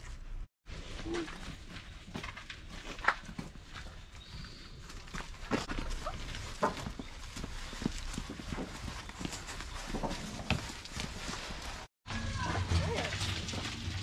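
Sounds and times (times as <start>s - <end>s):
footsteps on dirt: 0.7s - 14.0s
camping gear knocking and clattering: 1.2s - 14.0s.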